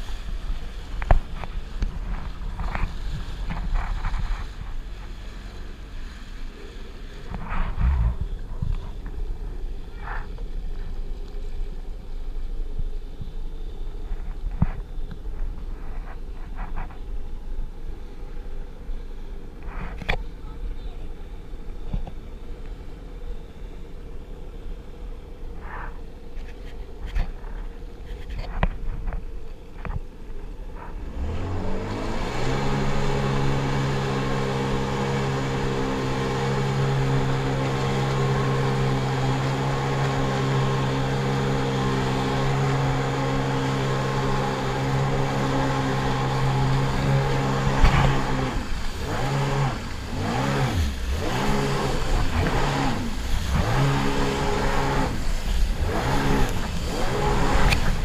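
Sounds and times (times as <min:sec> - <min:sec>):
watercraft engine revving: 0:00.0 - 0:26.0, 0:30.6 - 0:58.0
rushing spray and wind: 0:00.0 - 0:58.0.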